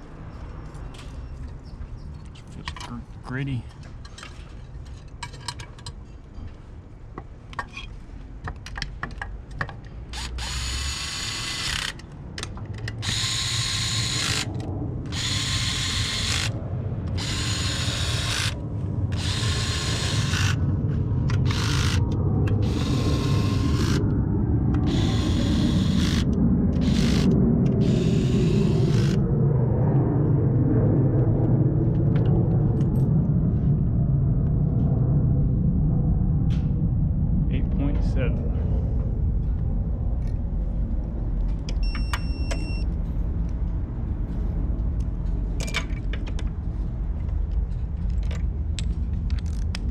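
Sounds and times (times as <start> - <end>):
low hum: 0.0 - 49.9.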